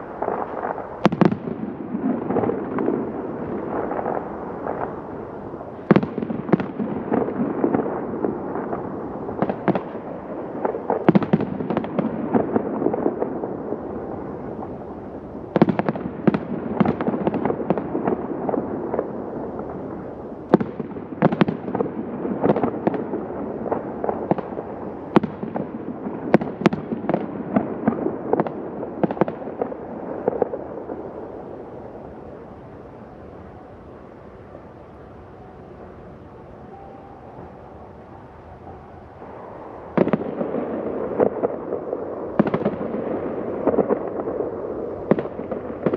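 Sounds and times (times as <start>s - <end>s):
firework shell bursts and crackles: 0.0s - 33.0s, 35.7s - 45.9s
continuous rumble: 0.0s - 45.9s.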